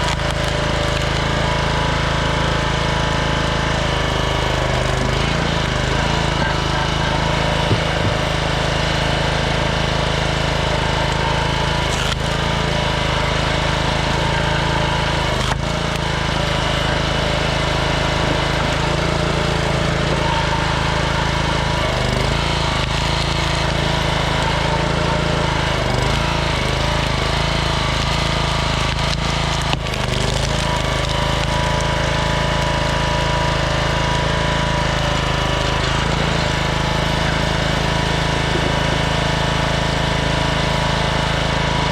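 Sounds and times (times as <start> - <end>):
log splitter engine running: 0.0 - 41.9.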